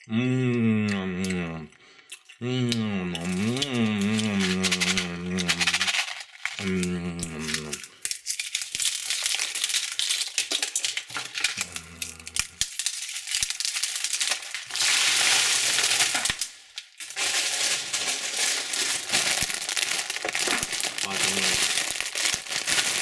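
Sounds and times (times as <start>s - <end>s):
candy wrappers crinkling: 3.1s - 23.0s.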